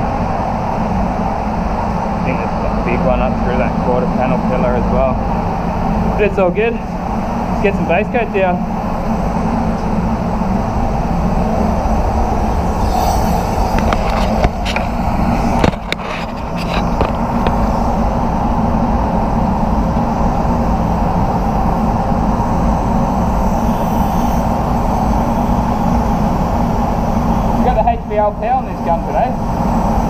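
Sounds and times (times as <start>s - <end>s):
spray booth air drone: 0.0s - 30.0s.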